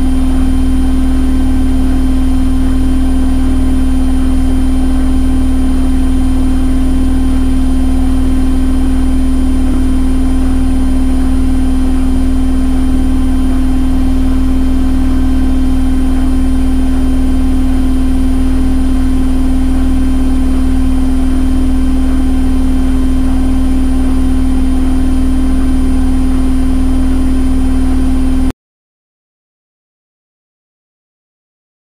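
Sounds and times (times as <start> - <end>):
washing machine spinning: 0.0 - 28.5.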